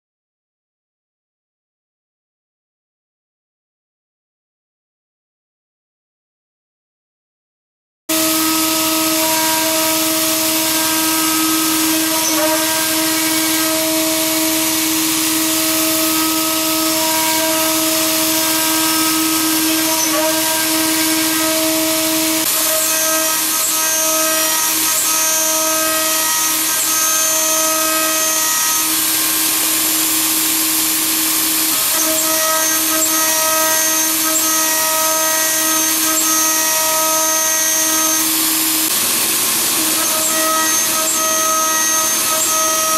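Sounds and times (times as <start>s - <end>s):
milling spindle motor whining: 8.2s - 42.9s.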